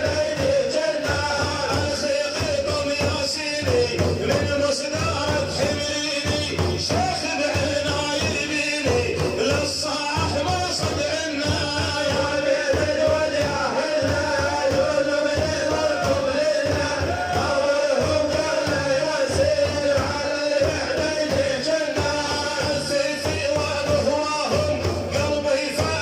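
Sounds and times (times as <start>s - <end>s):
dense percussion beat: 0.0s - 26.0s.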